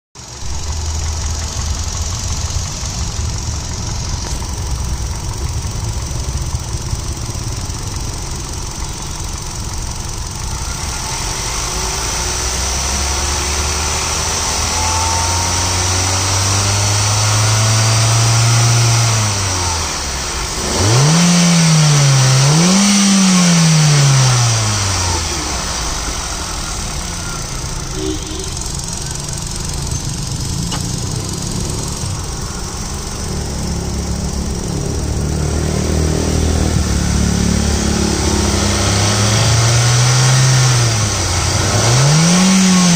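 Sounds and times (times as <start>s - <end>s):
car engine idling and revving: 0.1s - 42.9s.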